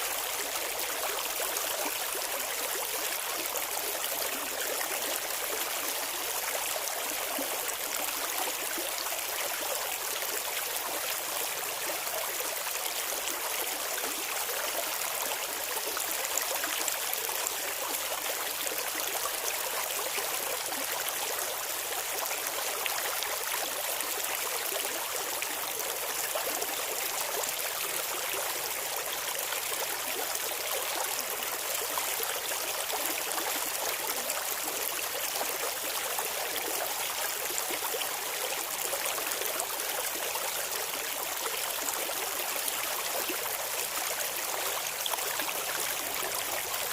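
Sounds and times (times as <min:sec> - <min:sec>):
river water babbling over stones: 0:00.0 - 0:46.9.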